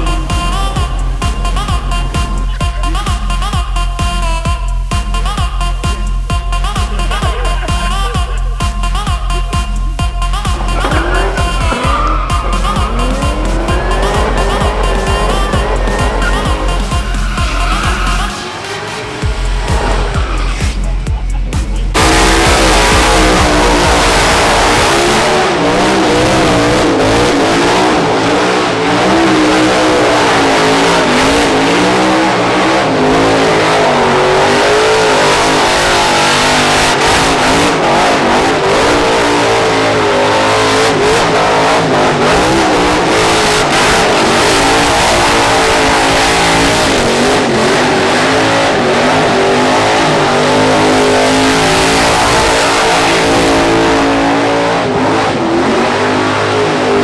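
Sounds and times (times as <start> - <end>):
car engine revving hard: 0.0 - 57.0.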